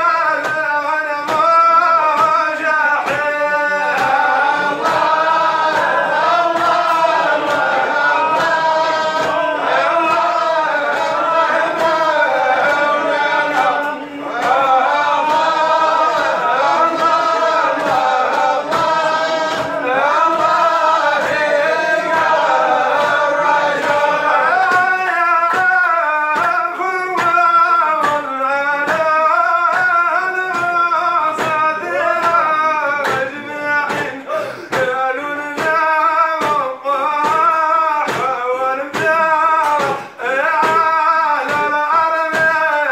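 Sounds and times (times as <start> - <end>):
men chanting in unison: 0.0 - 42.9
steady beat of sharp strikes: 0.0 - 42.9.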